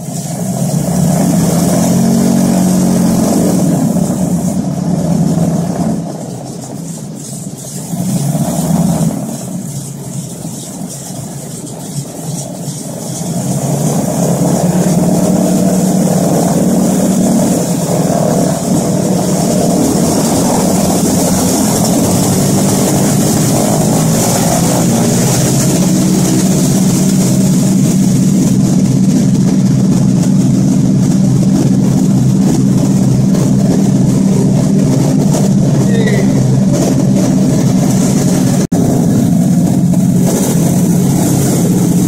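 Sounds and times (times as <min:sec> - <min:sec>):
propeller plane engines droning: 0:00.0 - 0:42.0.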